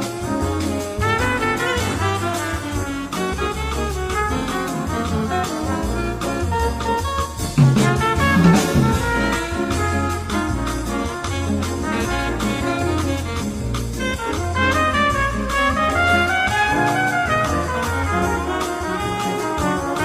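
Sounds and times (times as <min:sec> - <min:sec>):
rhythmic bass line: 0:00.0 - 0:20.0
upbeat music with brass horns: 0:00.0 - 0:20.0.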